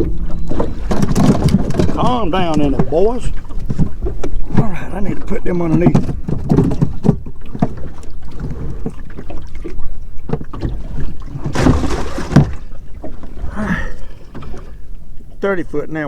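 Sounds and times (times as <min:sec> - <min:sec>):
boat motor rumble: 0:00.0 - 0:16.0
wind buffeting microphone: 0:00.0 - 0:16.0.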